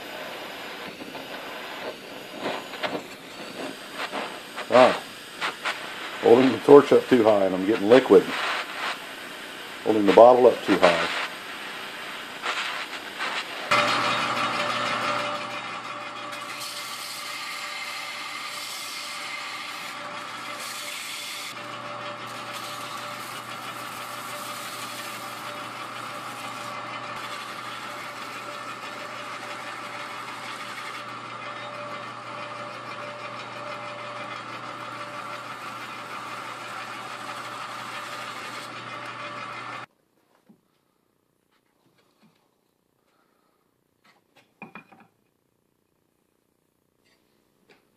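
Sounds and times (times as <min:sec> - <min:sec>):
belt sander grinding steel: 0:00.0 - 0:39.9.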